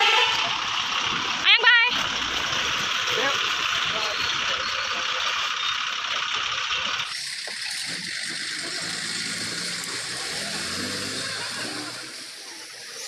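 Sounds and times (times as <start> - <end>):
bus engine humming low: 0.0 - 13.0
rain hissing: 0.0 - 13.0.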